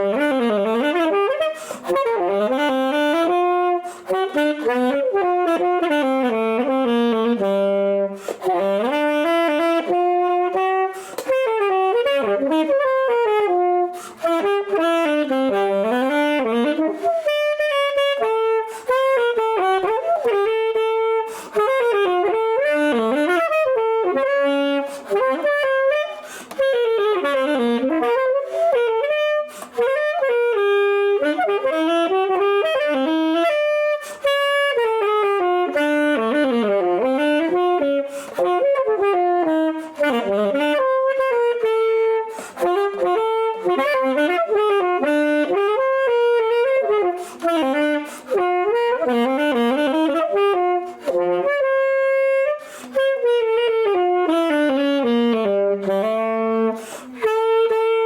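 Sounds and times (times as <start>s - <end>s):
saxophone jazz solo: 0.0s - 58.0s.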